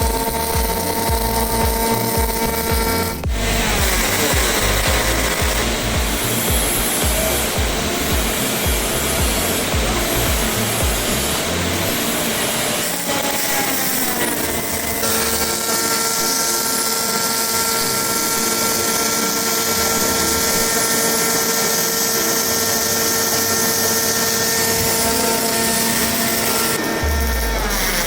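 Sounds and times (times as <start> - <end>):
welding machine whine: 0.0 - 28.0.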